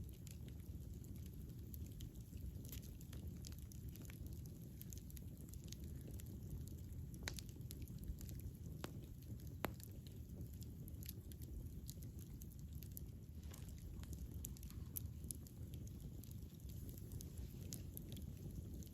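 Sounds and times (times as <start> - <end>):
wood fire crackling and popping: 0.0 - 18.9.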